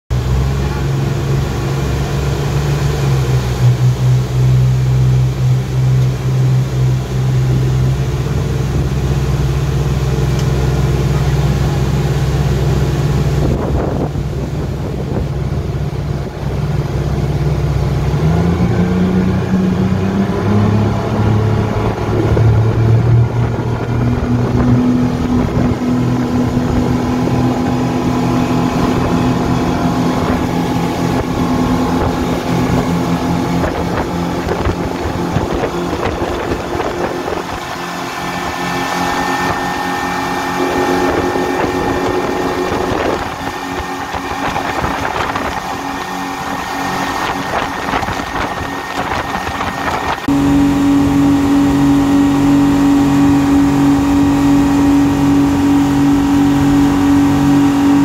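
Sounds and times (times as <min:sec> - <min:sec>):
outboard engine running: 0:00.1 - 0:58.0
water rushing along hull: 0:00.1 - 0:58.0.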